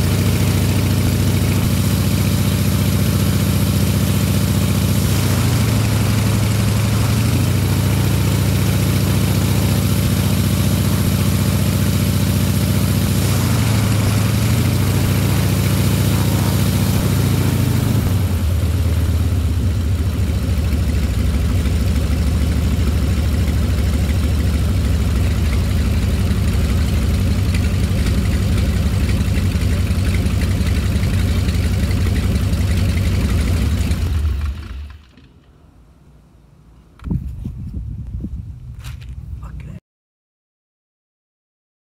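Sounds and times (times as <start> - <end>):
radial aircraft engine running: 0.0 - 37.1.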